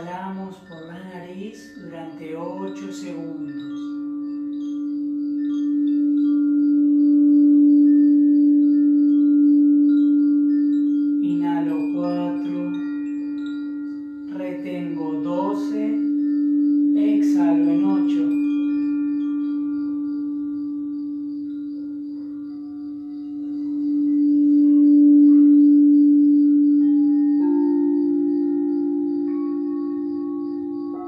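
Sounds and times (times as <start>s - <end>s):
crystal singing bowl ringing: 0.0s - 31.0s.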